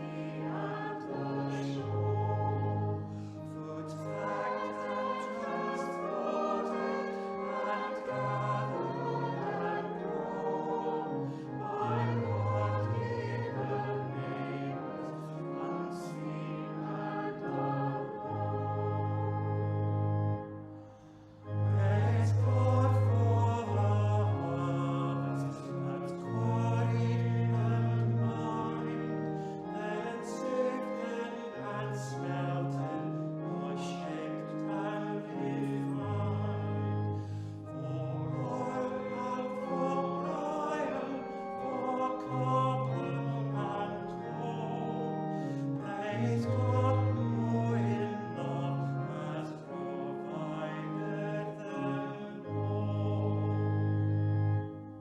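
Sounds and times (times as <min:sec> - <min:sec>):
choir singing a hymn: 0:00.0 - 0:20.8, 0:21.4 - 0:55.0.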